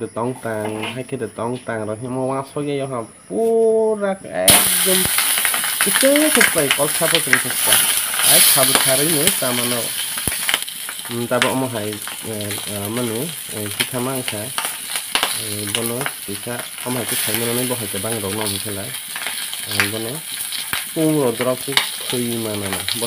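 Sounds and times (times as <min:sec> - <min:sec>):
chicken sizzling in hot oil: 0:04.5 - 0:23.0
oil popping: 0:04.5 - 0:23.0.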